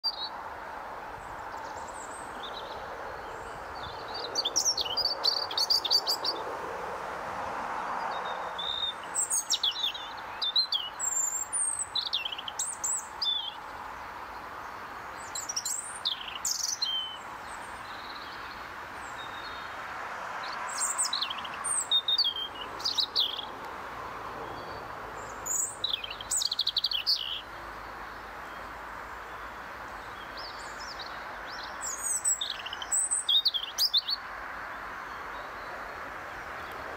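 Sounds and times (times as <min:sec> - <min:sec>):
robin singing: 0:00.0 - 0:00.4, 0:01.2 - 0:06.5, 0:08.0 - 0:19.8, 0:20.4 - 0:23.7, 0:24.4 - 0:36.8
faint background noise: 0:00.0 - 0:36.9.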